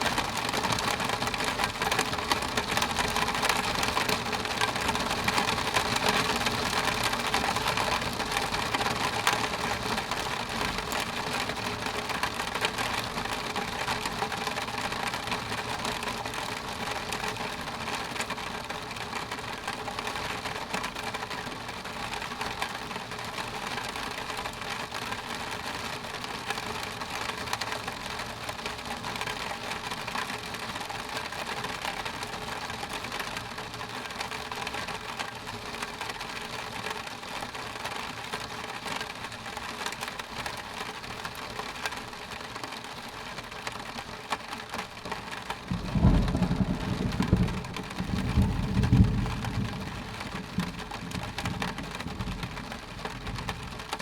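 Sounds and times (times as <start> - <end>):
rain on a window pane: 0.0 - 54.0.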